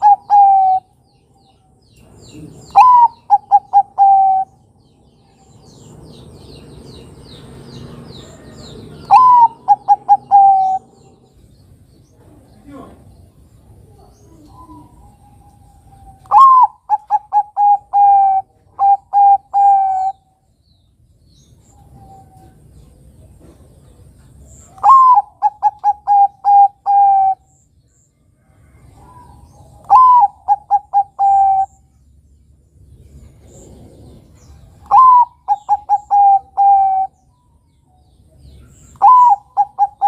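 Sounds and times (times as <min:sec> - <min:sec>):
dove cooing song: 0:00.0 - 0:06.3, 0:07.0 - 0:11.5, 0:13.6 - 0:20.5, 0:21.5 - 0:27.7, 0:28.4 - 0:32.0, 0:33.0 - 0:40.0.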